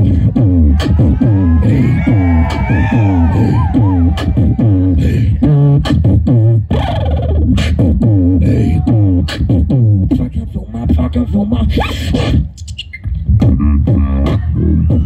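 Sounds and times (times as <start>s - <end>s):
beatboxed sliding bass notes: 0.0s - 15.0s
beatboxing kick and snare: 0.0s - 15.0s.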